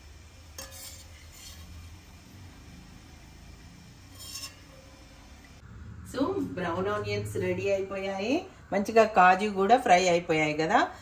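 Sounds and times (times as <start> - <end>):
low steady hum: 1.8 - 11.0.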